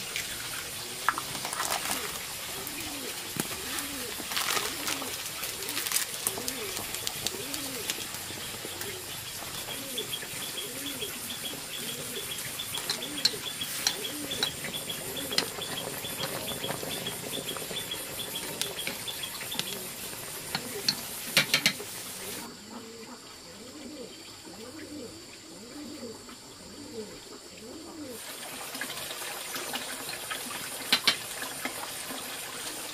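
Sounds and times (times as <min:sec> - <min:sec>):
water boiling in wok: 0:00.0 - 0:22.5, 0:28.2 - 0:32.9
doves cooing: 0:00.7 - 0:32.9.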